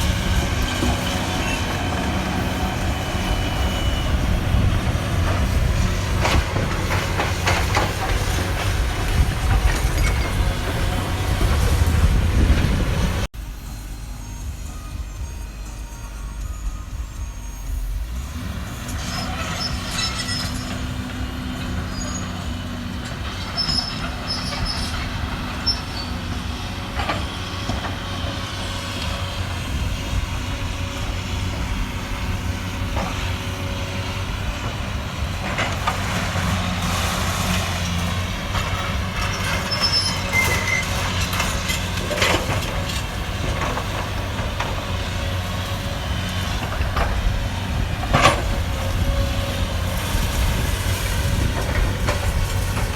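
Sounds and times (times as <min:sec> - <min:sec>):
excavator diesel engine running: 0:00.0 - 0:52.9
high metal squeals: 0:00.0 - 0:52.9.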